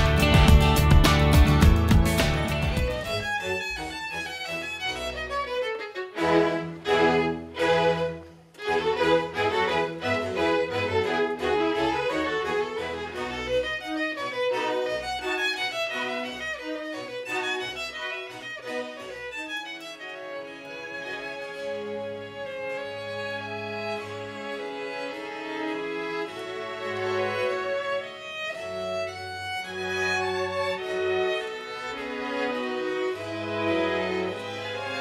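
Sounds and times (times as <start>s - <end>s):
solo violin: 0.0s - 35.0s
string orchestra: 0.0s - 35.0s.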